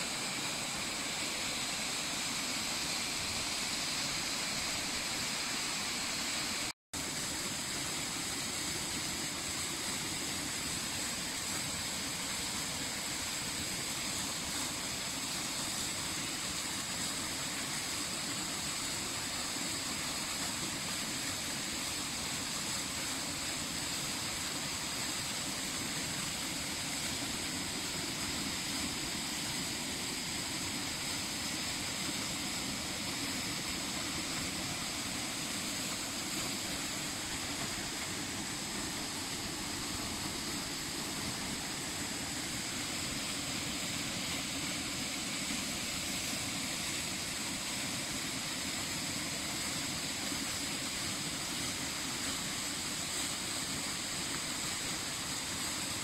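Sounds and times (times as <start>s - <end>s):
waterfall pouring into pool: 0.0s - 56.0s.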